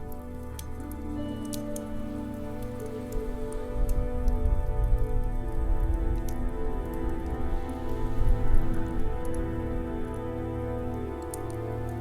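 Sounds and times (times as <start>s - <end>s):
low rumble of flames: 0.0s - 12.0s
soft ambient music: 0.0s - 12.0s
wood fire crackling: 0.0s - 12.0s.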